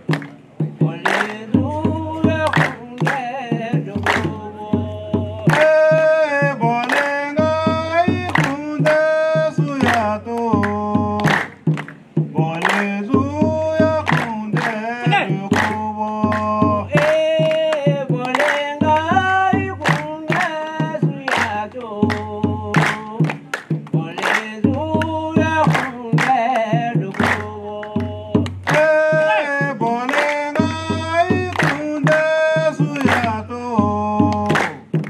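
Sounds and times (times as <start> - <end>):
steady drum beat: 0.0 - 35.0.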